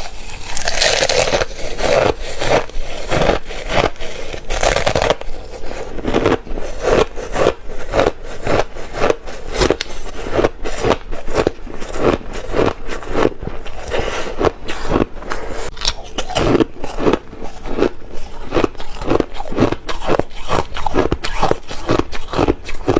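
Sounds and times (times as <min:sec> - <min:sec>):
ice being chewed: 0:00.0 - 0:22.9.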